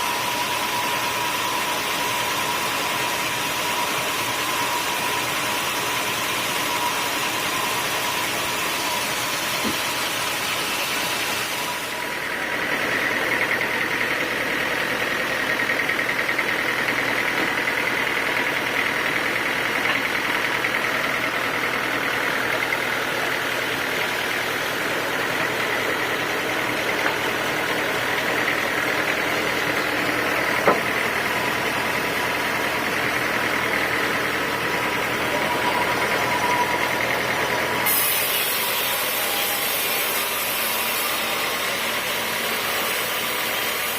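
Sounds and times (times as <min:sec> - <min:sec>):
sawmill sawing wood: 0:00.0 - 0:43.9.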